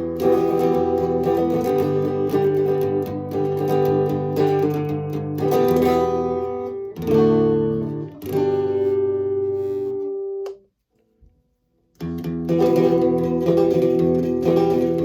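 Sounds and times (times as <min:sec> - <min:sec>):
electric guitar strumming chords: 0:00.0 - 0:10.6, 0:12.0 - 0:15.0.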